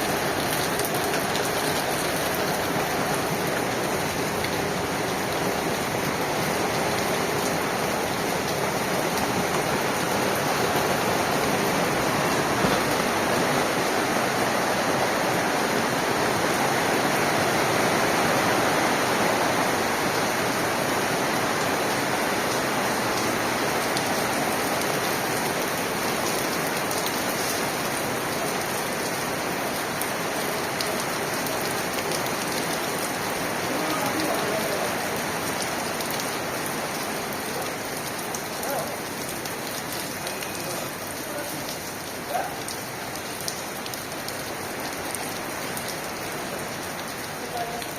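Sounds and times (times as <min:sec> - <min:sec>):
torrential rain pouring: 0:00.0 - 0:47.9.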